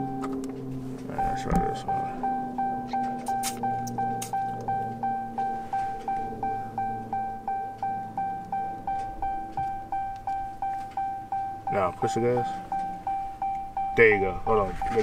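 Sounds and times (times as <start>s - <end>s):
car warning chime dinging: 0.0s - 15.0s.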